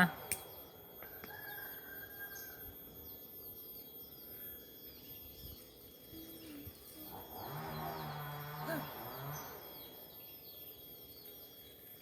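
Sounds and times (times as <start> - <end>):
outdoor background noise: 0.0 - 12.0
small birds chirping: 0.0 - 12.0.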